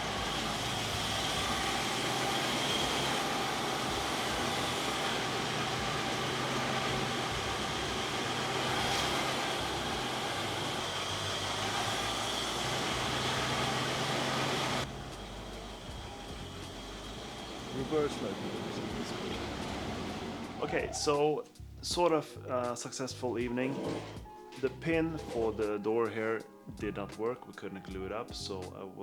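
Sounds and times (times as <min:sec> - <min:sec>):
car engine idling: 0:00.0 - 0:25.8.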